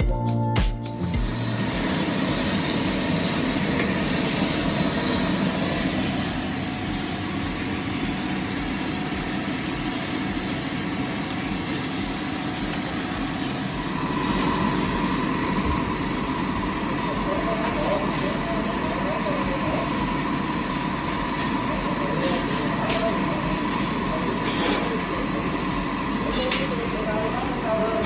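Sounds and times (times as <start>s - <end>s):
coffee roasting machine humming: 0.8s - 28.0s.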